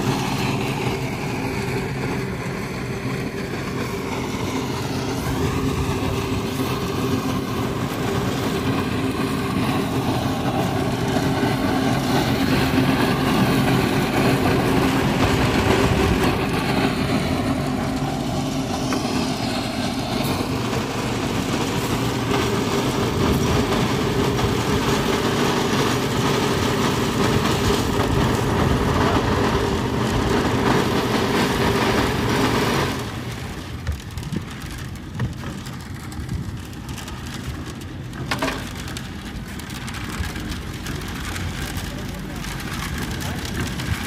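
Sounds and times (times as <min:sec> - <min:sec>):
concrete mixer running: 0:00.0 - 0:44.0
yard machinery: 0:00.0 - 0:44.0.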